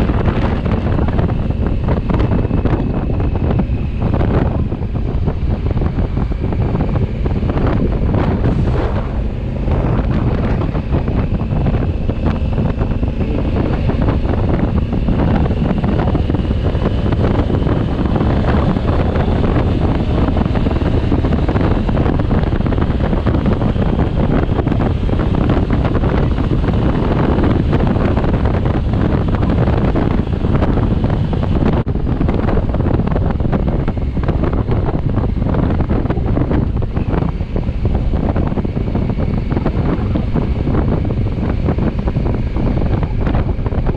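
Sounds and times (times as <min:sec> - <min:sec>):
motorcycle engine running: 0:00.0 - 0:43.9
wind over microphone: 0:00.0 - 0:43.9.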